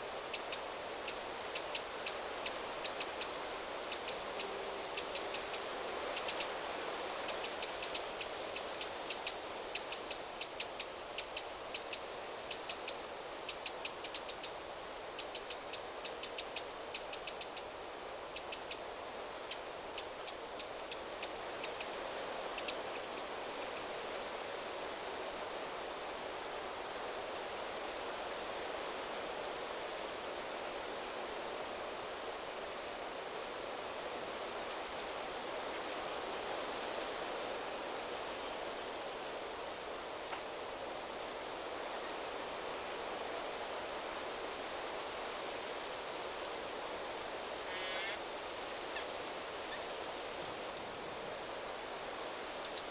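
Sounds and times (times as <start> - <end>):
wind rustling through trees: 0.0 - 52.9.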